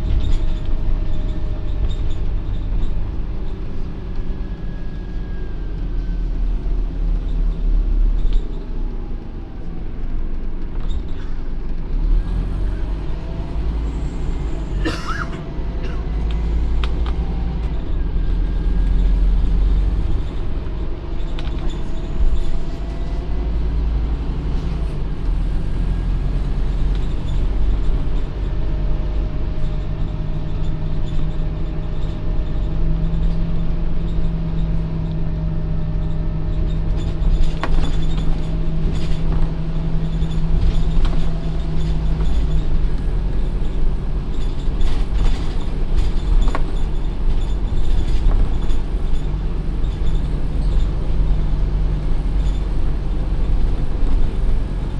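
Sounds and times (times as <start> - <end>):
bus engine rumble: 0.0 - 54.9.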